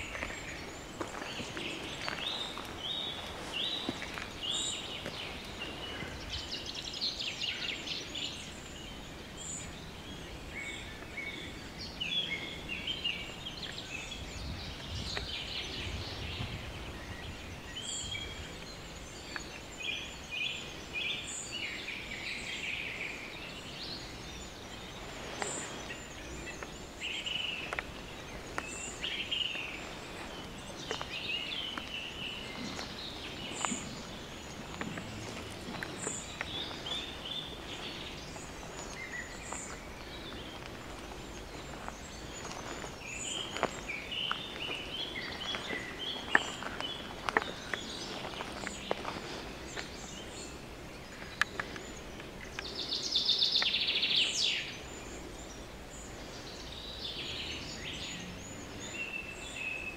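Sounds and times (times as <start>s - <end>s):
small birds singing and calling: 0.0s - 59.9s.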